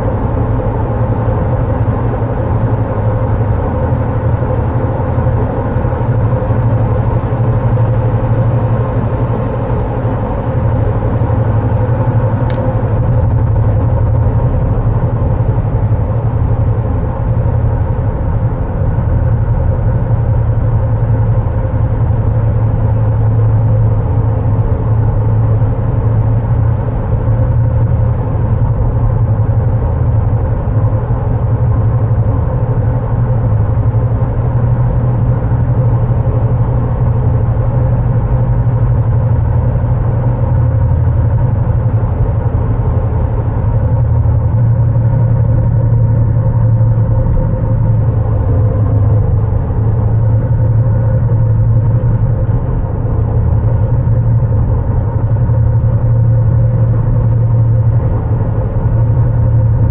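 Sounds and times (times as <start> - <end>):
car interior rumble: 0.0 - 59.9.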